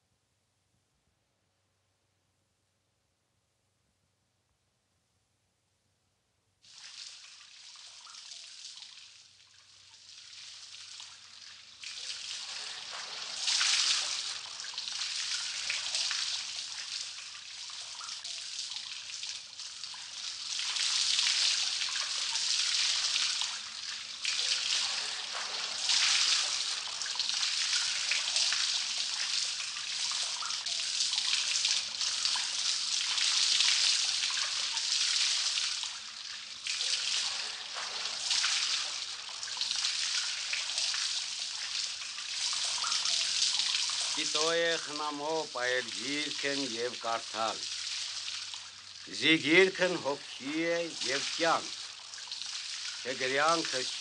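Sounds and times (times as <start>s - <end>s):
water trickling and dripping: 6.7s - 54.0s.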